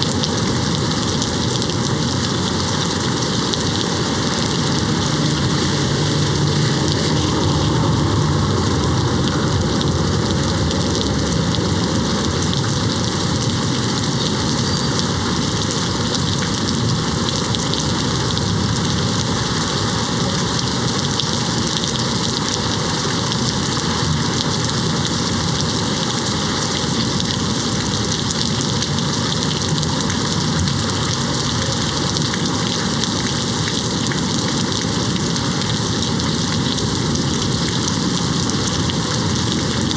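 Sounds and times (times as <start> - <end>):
rain pattering on window: 0.0 - 39.9.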